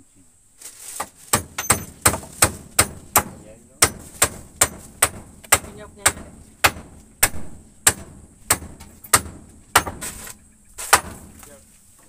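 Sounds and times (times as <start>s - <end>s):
hammer driving nails into wood: 1.0s - 11.5s.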